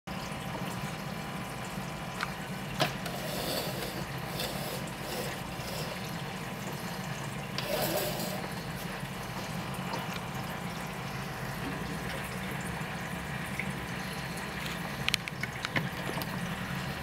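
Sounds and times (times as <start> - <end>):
aquarium water trickling: 0.1 - 17.0
pump hum: 0.1 - 17.0.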